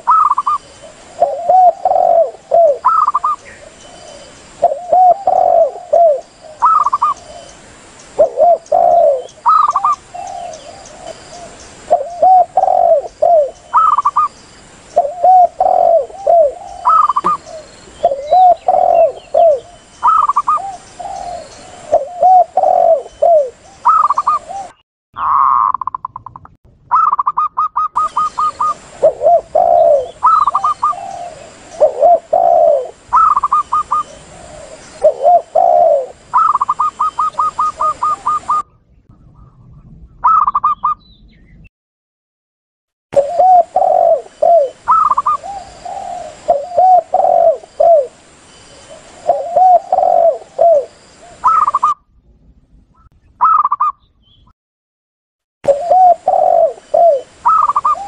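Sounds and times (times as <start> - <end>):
doves cooing: 0.0 - 7.6, 8.2 - 14.3, 15.0 - 26.2, 26.9 - 39.6, 40.2 - 41.0, 43.2 - 52.0, 55.7 - 58.0.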